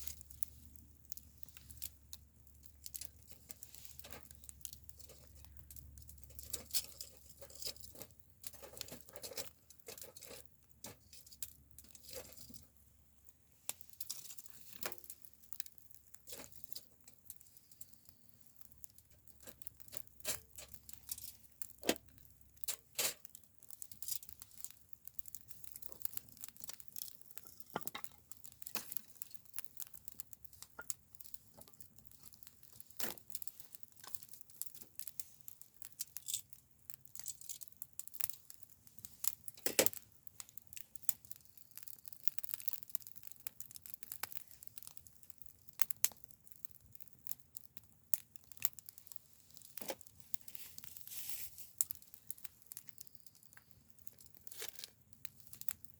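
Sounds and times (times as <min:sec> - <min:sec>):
campfire crackling: 0:00.0 - 0:55.9.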